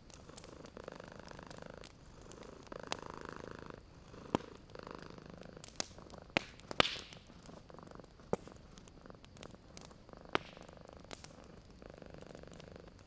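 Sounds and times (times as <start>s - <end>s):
wood fire crackling: 0.0s - 13.0s
cat purring: 0.1s - 13.0s.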